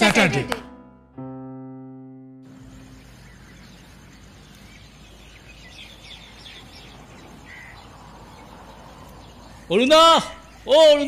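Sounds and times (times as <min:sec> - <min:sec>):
steady background hiss: 0:01.4 - 0:11.0.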